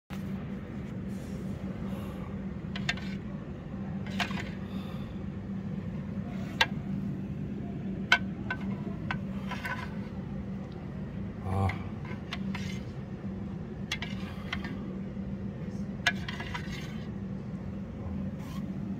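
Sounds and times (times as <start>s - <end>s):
steady low hum: 0.1s - 18.9s.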